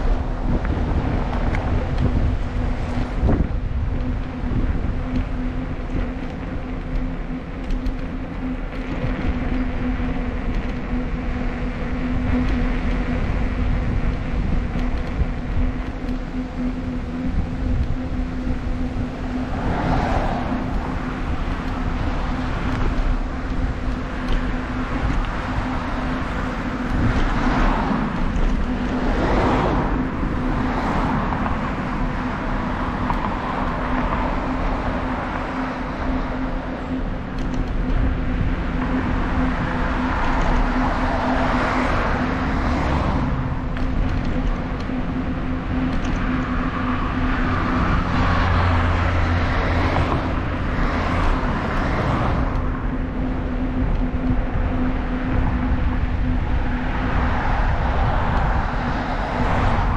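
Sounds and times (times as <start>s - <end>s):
cars passing: 0.0s - 59.9s
steady low rumble with hum: 0.0s - 59.9s.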